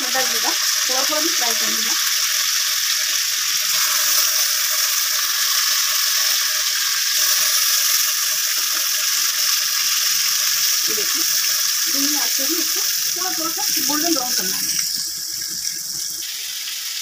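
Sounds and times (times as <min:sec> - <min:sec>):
chicken sizzling in butter: 0:00.0 - 0:17.0.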